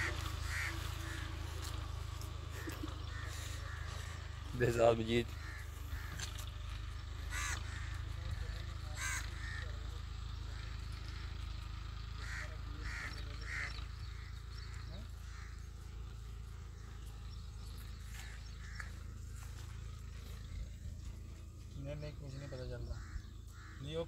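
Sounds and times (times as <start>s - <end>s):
steady low rumble: 0.0s - 11.4s, 12.2s - 23.8s
crows cawing: 0.0s - 24.0s.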